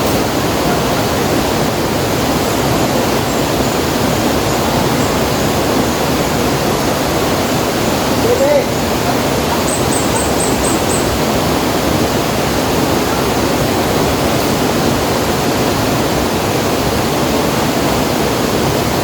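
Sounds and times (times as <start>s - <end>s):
loud rushing noise: 0.0s - 19.0s.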